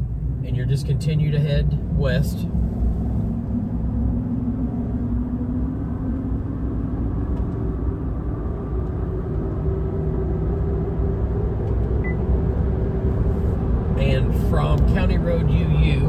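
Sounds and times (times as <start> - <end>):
faint engine hum: 0.0 - 16.0.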